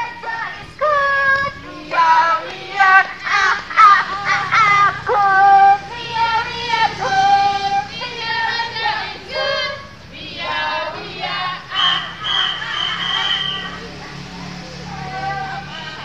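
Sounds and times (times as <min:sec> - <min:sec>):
woman singing: 0:00.0 - 0:12.2, 0:14.8 - 0:16.0.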